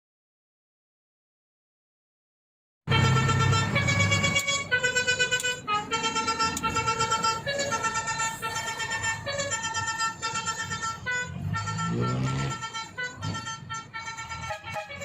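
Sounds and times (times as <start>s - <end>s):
low engine rumble: 2.9s - 15.0s
multi-note air horn tune: 2.9s - 15.0s.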